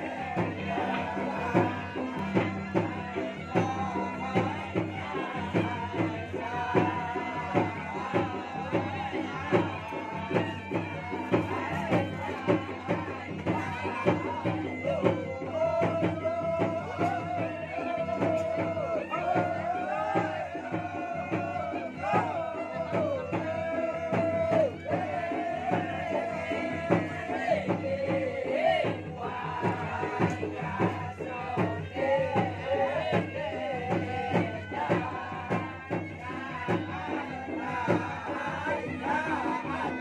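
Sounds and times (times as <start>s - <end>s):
drums beating quickly: 0.0s - 40.0s.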